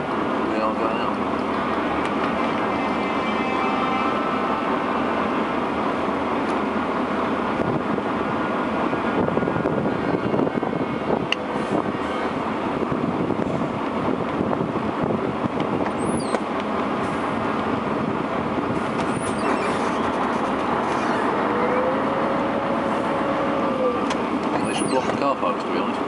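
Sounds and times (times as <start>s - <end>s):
road noise: 0.0s - 26.0s
truck engine running at low speed: 0.0s - 26.0s.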